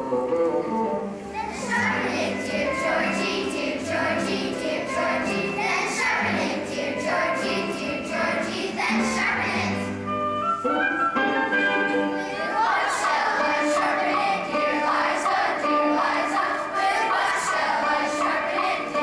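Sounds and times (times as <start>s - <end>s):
children's choir singing: 0.0s - 10.2s, 11.6s - 19.0s
musical accompaniment with steady beat: 0.0s - 19.0s.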